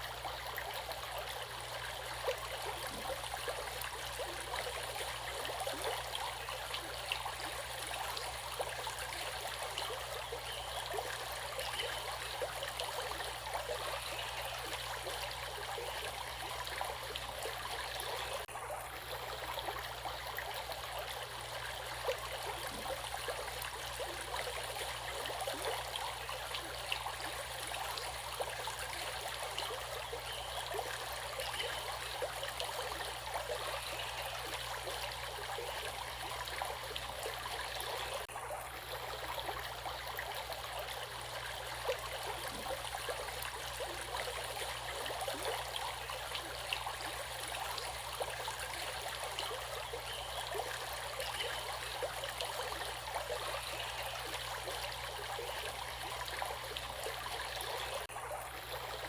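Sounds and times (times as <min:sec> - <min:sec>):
small water splashes: 0:00.0 - 0:59.0
stream water flowing: 0:00.0 - 0:59.0.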